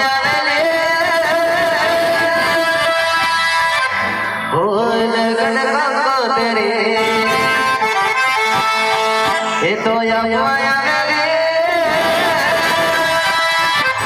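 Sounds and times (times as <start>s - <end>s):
band music over sound system: 0.0s - 14.0s.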